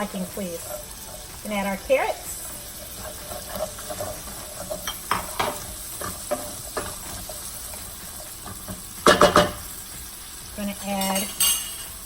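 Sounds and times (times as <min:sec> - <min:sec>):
utensil tapping pan: 0:00.0 - 0:10.1, 0:10.7 - 0:12.0
food sizzling in frying pan: 0:00.0 - 0:12.0.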